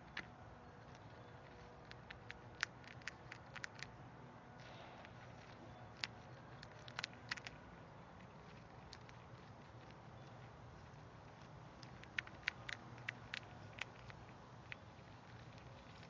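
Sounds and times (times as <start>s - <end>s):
chipmunk cracking peanut shell: 0.0s - 4.0s, 4.6s - 16.0s.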